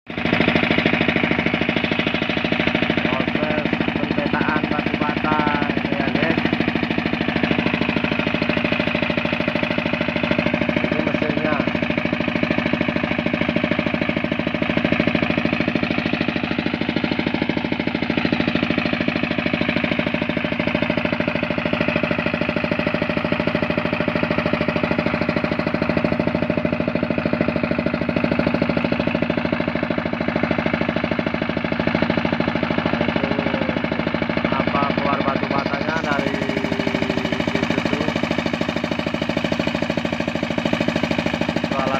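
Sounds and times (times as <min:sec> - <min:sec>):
machine engine running: 0:00.1 - 0:41.9.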